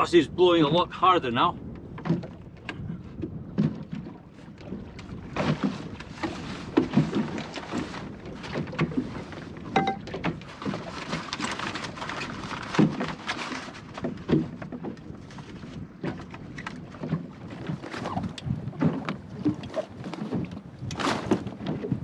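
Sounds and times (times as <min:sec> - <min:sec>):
waves slapping against hull: 0:00.0 - 0:22.0
sailcloth and rope rustling: 0:03.6 - 0:22.0.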